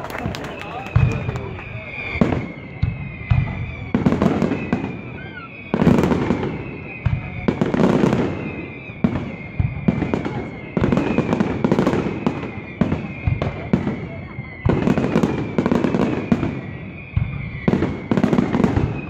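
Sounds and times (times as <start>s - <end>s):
firework bangs: 0.0s - 19.0s
firework crackling: 0.0s - 19.0s.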